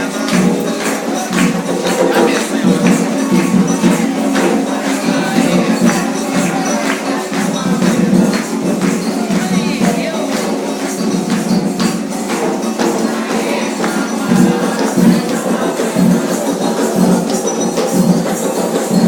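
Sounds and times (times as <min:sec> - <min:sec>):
hand percussion: 0:00.0 - 0:19.0
shakers: 0:00.0 - 0:19.0.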